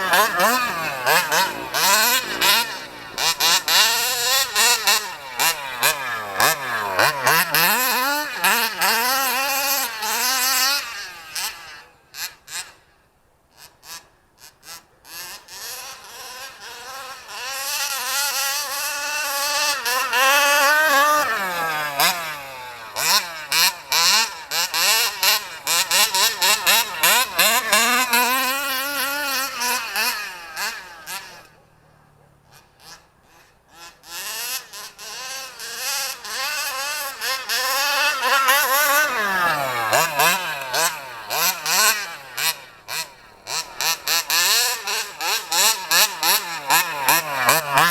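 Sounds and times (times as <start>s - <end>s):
model car engine buzzing: 0.0s - 47.9s.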